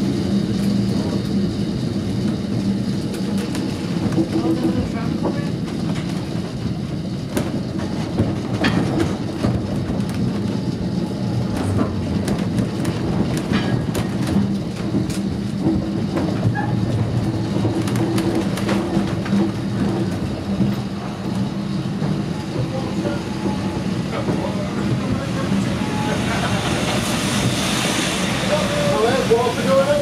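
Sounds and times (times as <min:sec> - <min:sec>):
tram car rumbling: 0:00.0 - 0:30.0
wheels clicking on track: 0:00.1 - 0:30.0.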